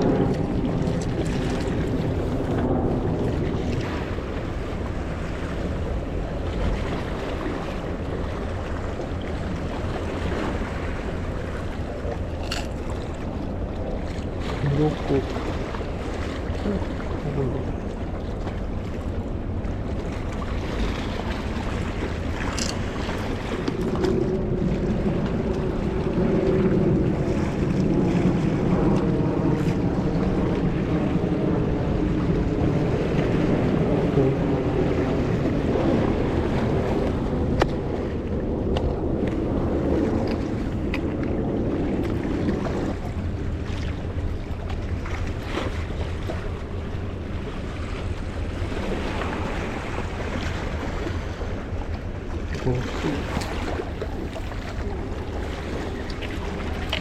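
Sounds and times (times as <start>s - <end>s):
boat engine humming: 0.0s - 57.0s
waves washing against shore: 0.0s - 57.0s
wind: 0.0s - 57.0s.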